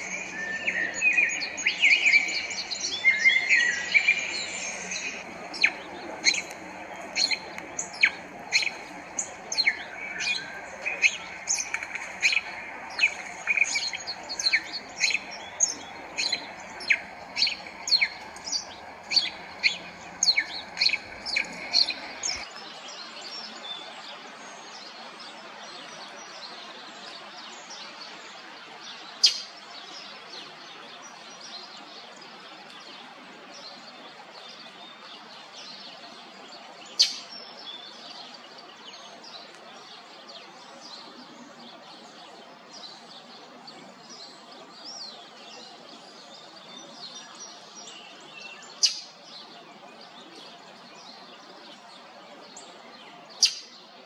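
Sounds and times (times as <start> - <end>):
blackbird song: 0.0 - 54.0.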